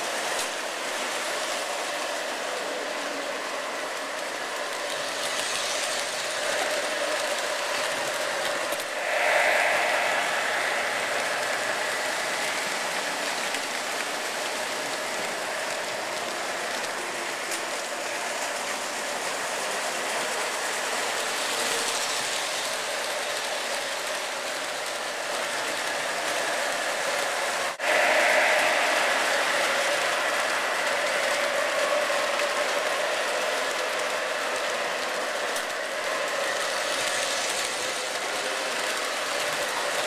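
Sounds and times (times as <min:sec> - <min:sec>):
model train wheels clicking: 0:00.0 - 0:08.9, 0:09.5 - 0:40.0.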